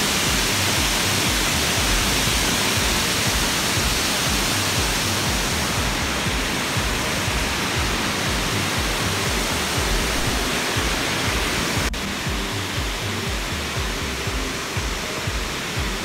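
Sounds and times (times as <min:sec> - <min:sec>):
water rushing through dam: 0:00.0 - 0:16.0.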